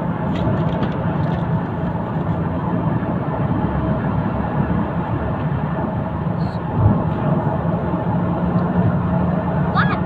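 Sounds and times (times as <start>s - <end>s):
car tyres and engine drone: 0.0s - 10.0s.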